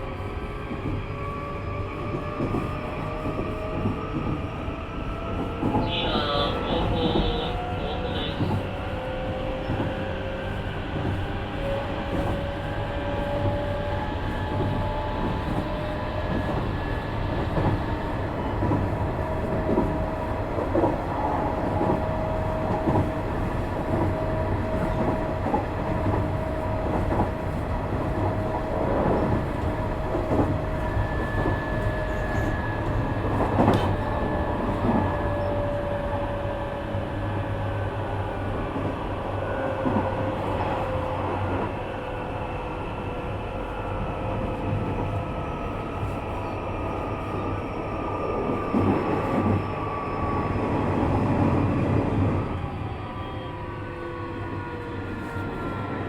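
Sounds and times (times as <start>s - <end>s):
train running rumble: 0.0s - 53.1s.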